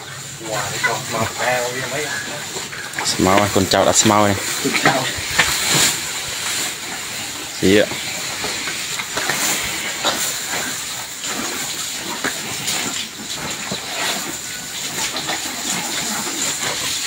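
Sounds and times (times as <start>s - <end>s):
steady hiss: 0.0s - 17.0s
cattle chewing crunches: 0.6s - 17.0s
grass rustling and tearing: 3.0s - 17.0s.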